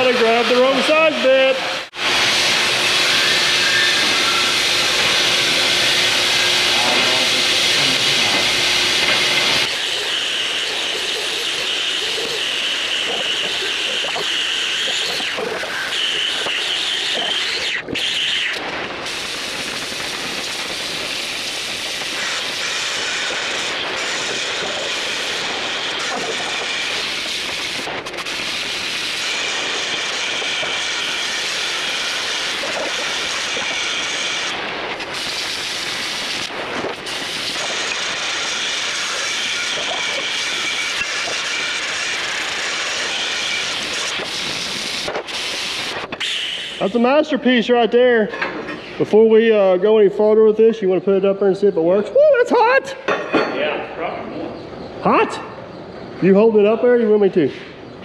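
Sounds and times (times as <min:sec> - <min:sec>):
cutting torch hissing: 0:00.0 - 0:47.8.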